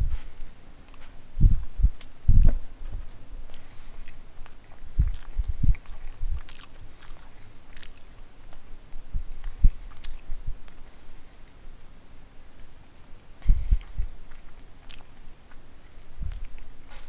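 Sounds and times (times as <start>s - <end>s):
person chewing with wet clicks: 0.4s - 10.9s, 13.2s - 17.0s.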